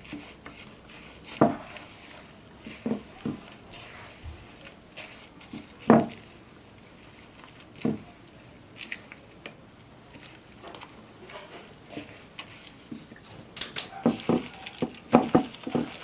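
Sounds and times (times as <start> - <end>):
slime squishing and squelching: 0.0 - 16.0.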